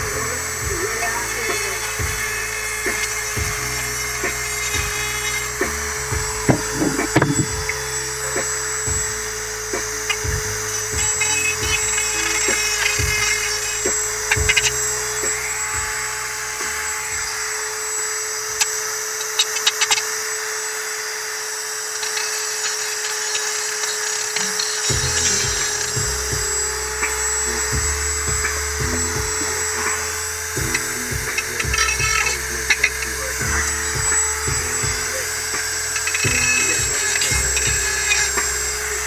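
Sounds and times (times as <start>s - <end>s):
blade grinding: 0.0s - 39.0s
rotary tool whining: 0.0s - 39.0s.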